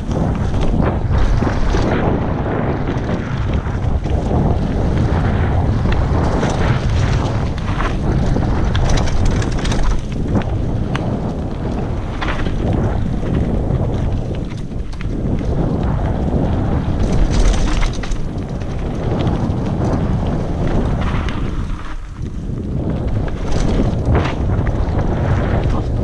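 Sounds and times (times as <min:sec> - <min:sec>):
bike rattling and knocking: 0:00.0 - 0:26.0
tyre rumble on dirt: 0:00.0 - 0:26.0
wind buffeting microphone: 0:00.0 - 0:26.0.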